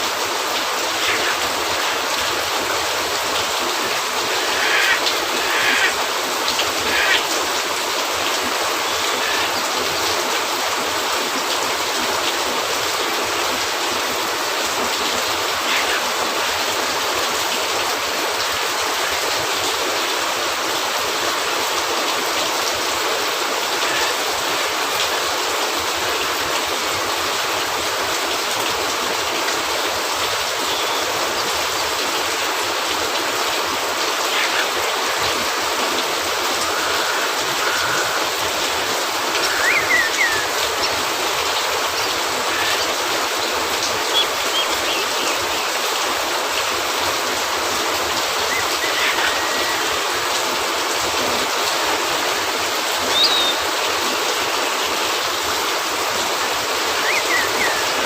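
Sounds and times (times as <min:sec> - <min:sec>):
rain on a roof: 0:00.0 - 0:58.0
rain spatters: 0:00.0 - 0:58.0.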